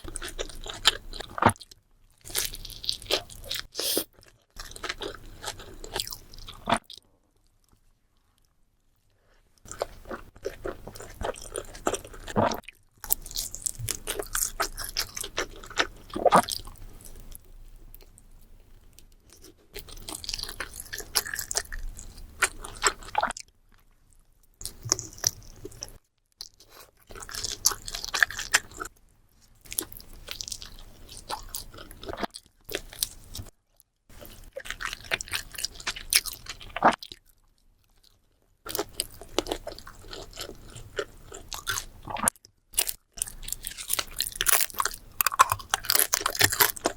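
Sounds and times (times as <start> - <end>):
chewing and biting food: 0.0 - 7.1, 9.6 - 17.4, 19.2 - 23.9, 24.6 - 28.9, 29.6 - 46.9.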